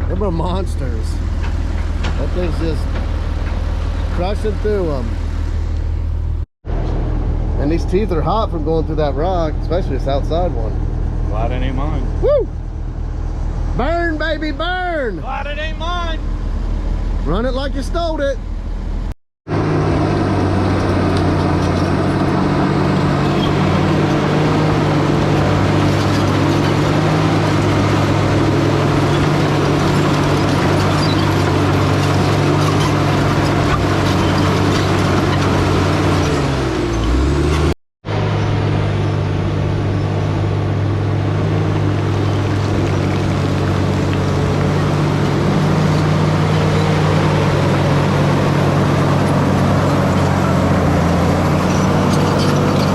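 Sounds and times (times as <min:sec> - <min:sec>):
heavy diesel engine under load: 0:00.0 - 0:52.9.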